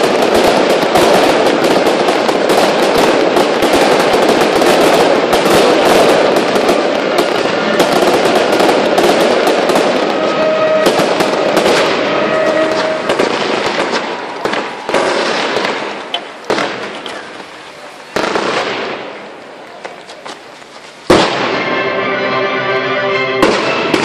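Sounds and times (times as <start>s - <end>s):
fireworks bangs and crackling: 0.0s - 22.3s, 23.1s - 24.0s.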